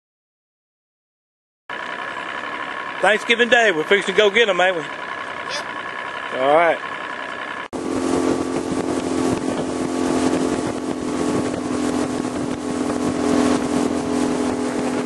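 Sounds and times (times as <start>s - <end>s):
outboard motor running: 1.7s - 15.0s
water noise: 1.7s - 15.0s
wind: 1.7s - 15.0s.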